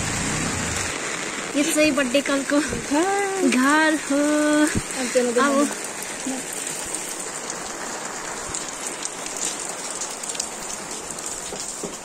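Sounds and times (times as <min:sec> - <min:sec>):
steady rain hiss: 0:00.0 - 0:12.0
raindrops ticking: 0:00.9 - 0:12.0.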